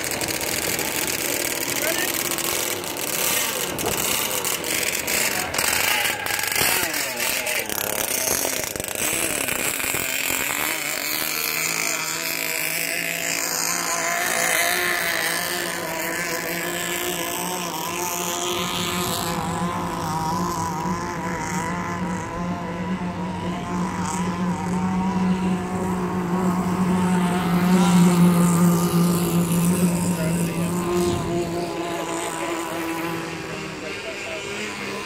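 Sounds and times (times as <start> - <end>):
model boat engines high-pitched: 0.0 - 35.0.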